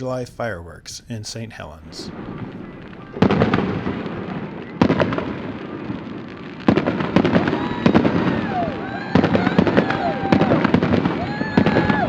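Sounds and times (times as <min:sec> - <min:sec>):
low rumble of fireworks: 0:00.0 - 0:12.0
fireworks booms: 0:01.6 - 0:12.0
fireworks crackles: 0:01.6 - 0:12.0.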